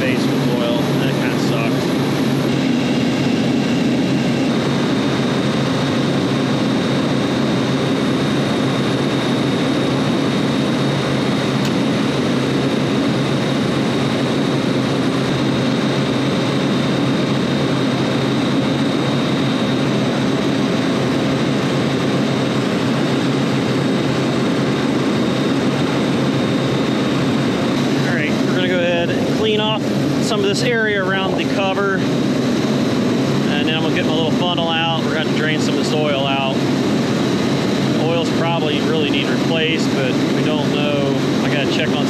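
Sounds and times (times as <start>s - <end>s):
compressors and fans droning: 0.0s - 42.0s.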